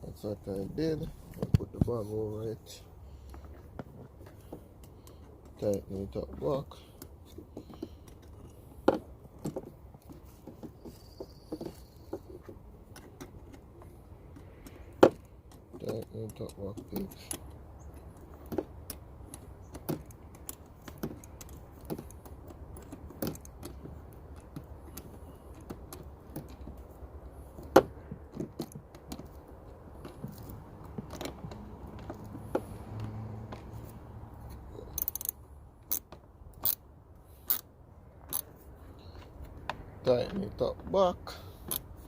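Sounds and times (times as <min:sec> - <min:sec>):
small parts and tools rattling: 0:00.5 - 0:42.0.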